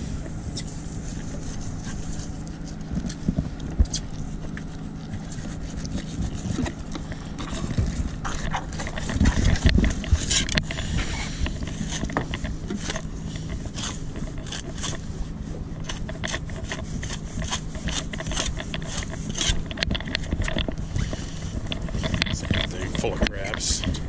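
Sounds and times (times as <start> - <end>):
steady low rumble: 0.0 - 24.0
knife scraping fish: 0.5 - 3.3, 3.9 - 15.1, 15.8 - 22.2.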